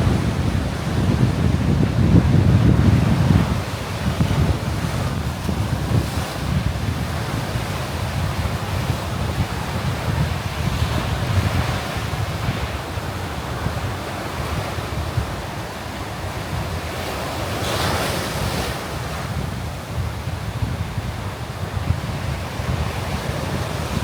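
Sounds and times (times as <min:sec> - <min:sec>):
surf washing on sandy beach: 0:00.0 - 0:24.0
wind buffeting microphone: 0:00.0 - 0:24.0.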